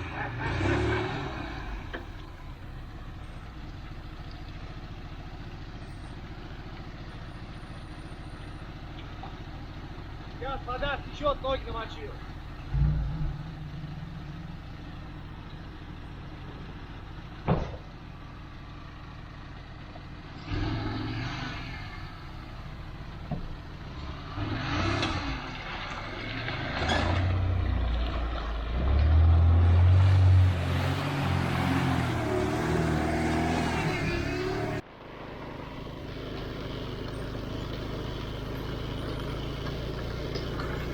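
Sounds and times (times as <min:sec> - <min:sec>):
vehicle engine revving: 0:00.0 - 0:03.8, 0:07.2 - 0:18.1, 0:20.2 - 0:40.9.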